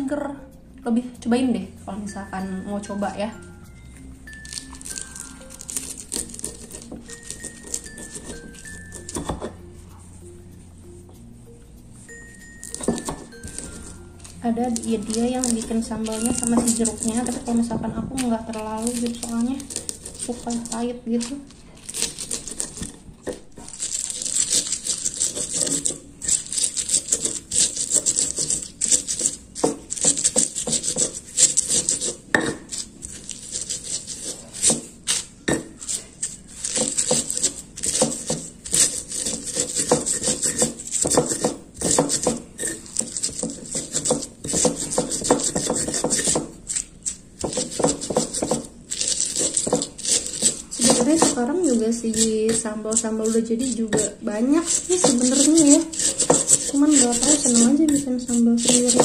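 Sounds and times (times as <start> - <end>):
stone pestle grinding in mortar: 4.0 - 10.0, 12.0 - 59.0.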